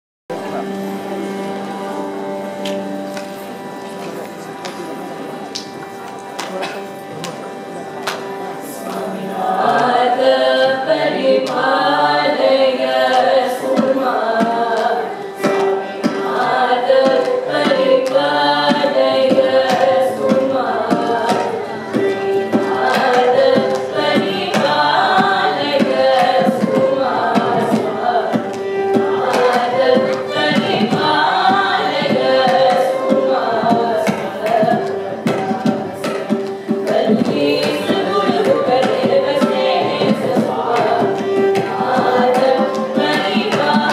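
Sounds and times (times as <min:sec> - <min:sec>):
percussion strokes: 0:00.3 - 0:43.9
group of voices singing: 0:08.6 - 0:43.9.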